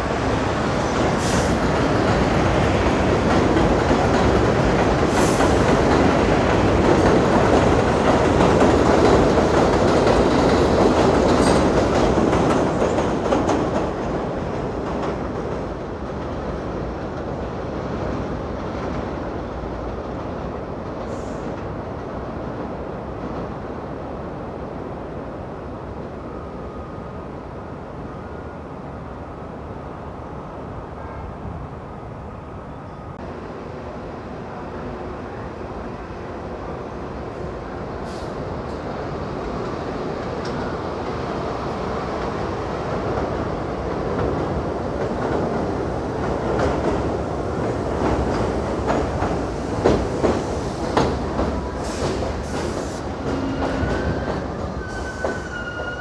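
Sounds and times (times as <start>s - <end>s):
subway train running on track: 0.0s - 56.0s.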